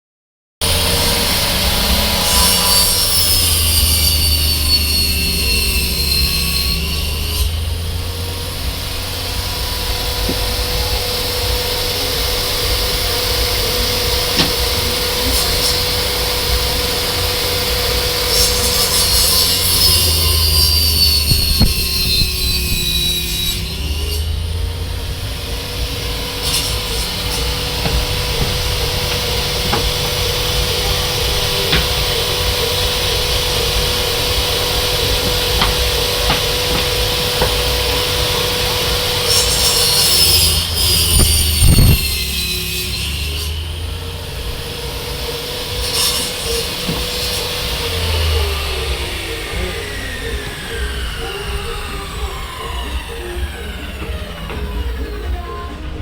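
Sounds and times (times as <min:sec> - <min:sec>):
table saw cutting wood: 0:00.6 - 0:56.0.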